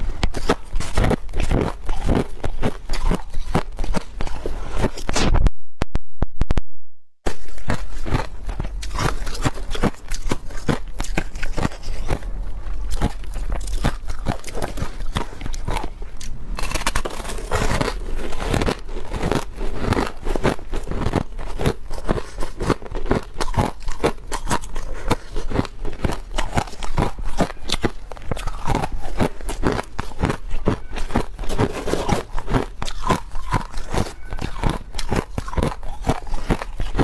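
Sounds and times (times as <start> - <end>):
ice being chewed: 0.0 - 5.1, 7.3 - 37.0.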